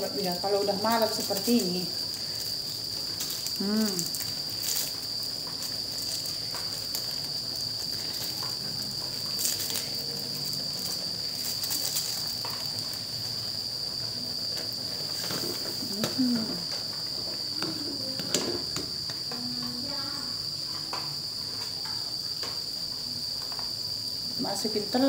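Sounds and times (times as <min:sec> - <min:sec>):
cricket chirring: 0:00.0 - 0:25.0.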